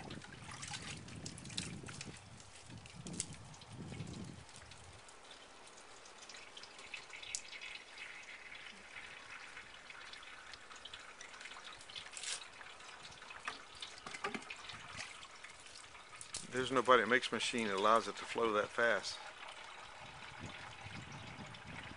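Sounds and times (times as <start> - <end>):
water trickling into container: 0.0 - 21.9.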